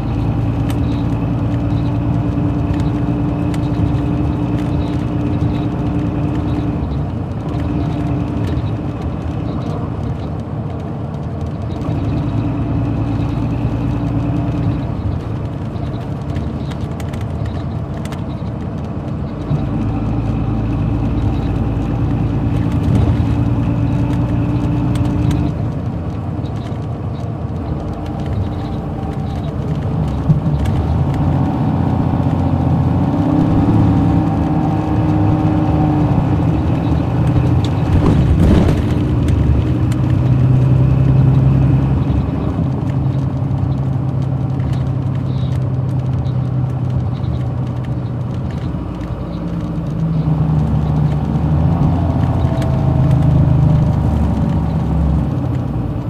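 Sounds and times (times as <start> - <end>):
diesel coach engine drone: 0.0 - 56.0.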